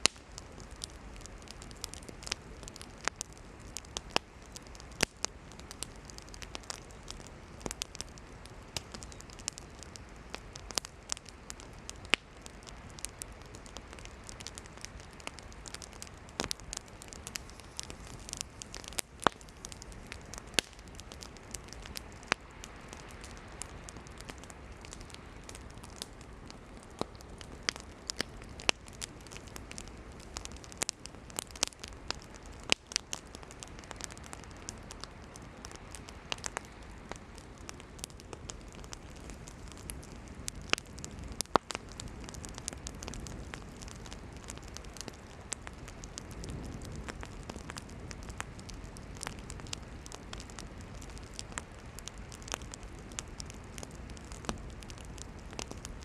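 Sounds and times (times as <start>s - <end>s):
campfire flames hissing: 0.0s - 56.0s
firewood crackling and popping: 0.0s - 56.0s.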